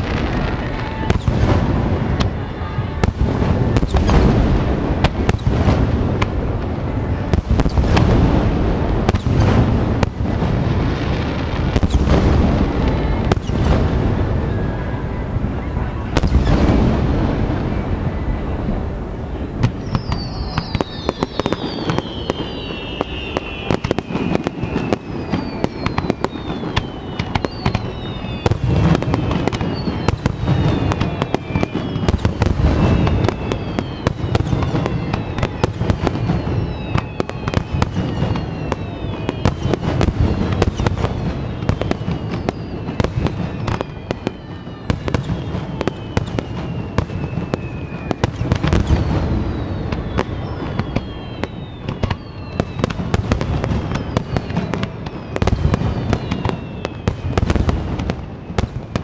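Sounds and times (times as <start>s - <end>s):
firework shells booming: 0.0s - 18.8s, 19.4s - 59.0s
falling firework whistles: 0.0s - 59.0s
fireworks crackling: 0.0s - 59.0s.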